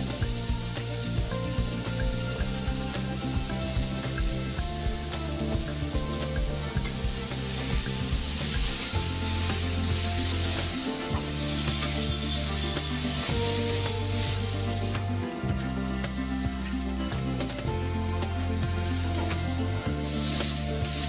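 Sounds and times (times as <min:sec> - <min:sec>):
potatoes sizzling in oil: 0:00.0 - 0:15.2, 0:15.8 - 0:21.0
background music with low notes: 0:00.0 - 0:21.0.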